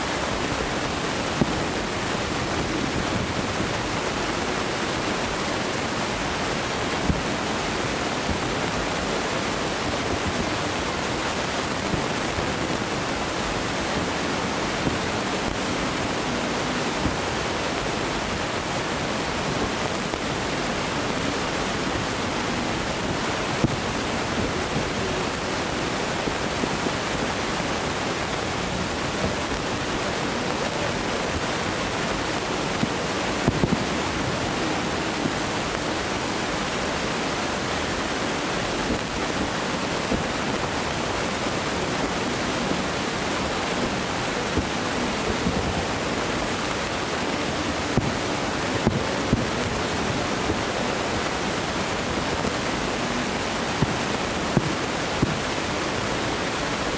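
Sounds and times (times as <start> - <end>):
steady rushing noise: 0.0 - 56.9.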